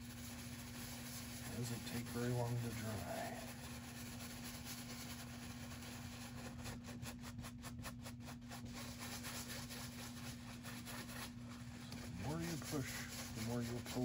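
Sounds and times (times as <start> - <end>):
paintbrush scrubbing canvas: 0.0 - 14.0
steady low hum: 0.0 - 14.0.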